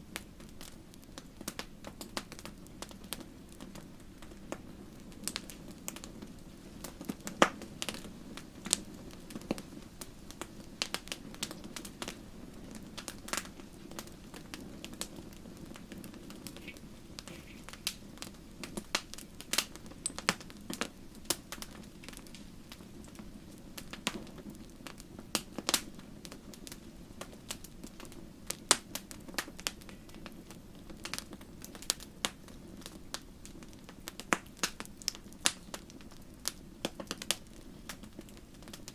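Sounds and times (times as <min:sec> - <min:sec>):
low rumble of burning: 0:00.0 - 0:38.9
wood fire crackling and popping: 0:00.0 - 0:38.9.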